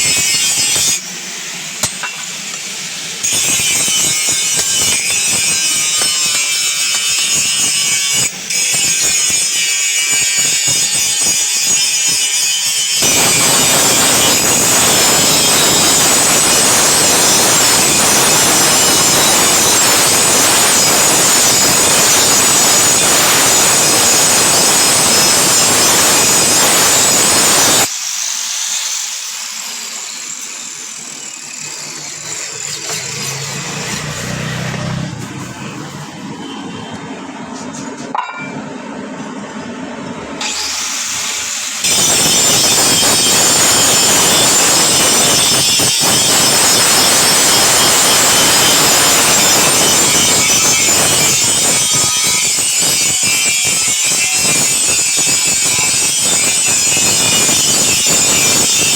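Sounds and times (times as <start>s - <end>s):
power grinder grinding steel: 0.0s - 36.0s, 40.4s - 58.9s.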